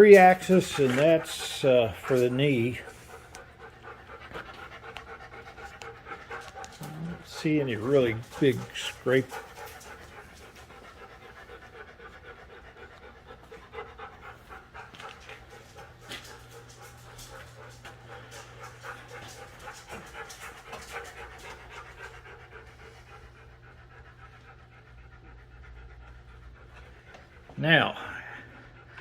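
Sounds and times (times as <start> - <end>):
dog panting: 0.0 - 29.0
steady low hum: 0.0 - 29.0.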